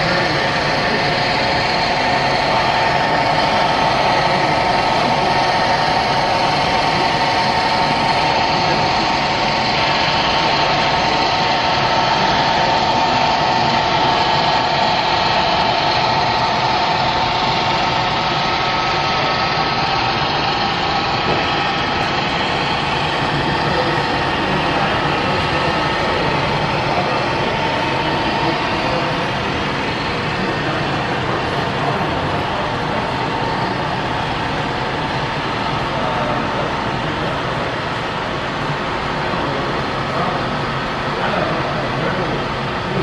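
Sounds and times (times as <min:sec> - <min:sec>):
model locomotive engine drone: 0:00.0 - 0:43.0.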